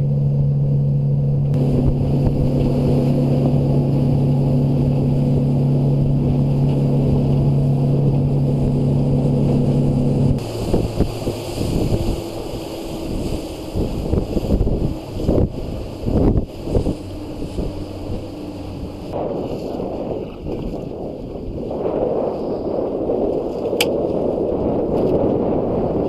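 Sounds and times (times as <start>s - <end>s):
boat engine droning: 0.0s - 26.0s
wind on microphone: 0.0s - 26.0s
water spray splashing along hull: 0.2s - 26.0s.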